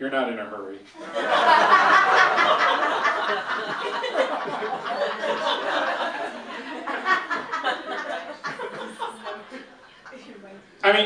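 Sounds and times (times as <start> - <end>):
audience laughing: 1.0 - 10.5.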